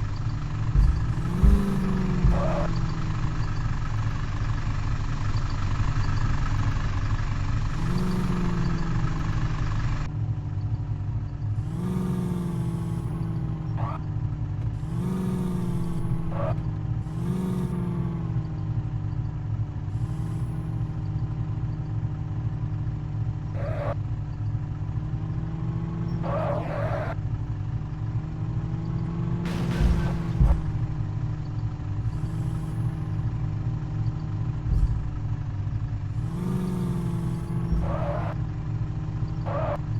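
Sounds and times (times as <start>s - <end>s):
truck engine revving: 0.0s - 10.1s, 11.5s - 19.2s, 19.8s - 22.0s, 23.4s - 24.0s, 25.1s - 27.4s, 28.3s - 39.9s.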